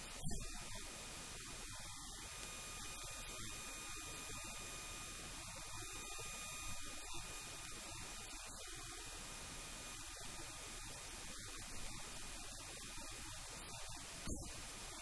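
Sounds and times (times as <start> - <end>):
electrical hum and hiss: 0.0 - 15.0
faint high-pitched tones: 0.0 - 15.0.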